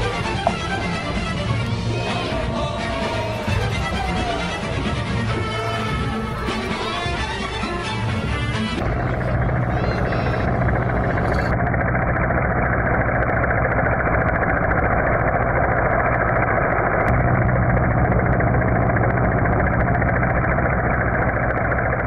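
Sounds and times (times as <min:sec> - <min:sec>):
low hum: 0:00.0 - 0:22.0
mechanical engine rumble: 0:00.0 - 0:22.0.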